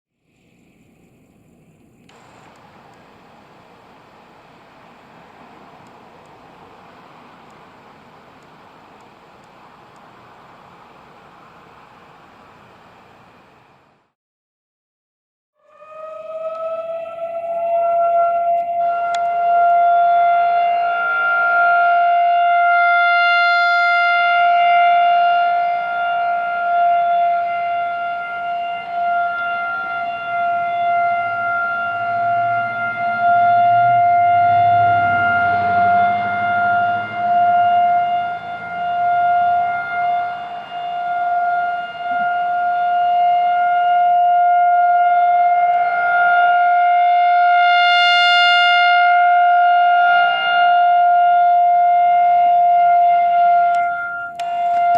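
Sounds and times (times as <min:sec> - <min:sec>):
warning siren wailing: 0:02.1 - 0:14.1, 0:15.6 - 0:54.9.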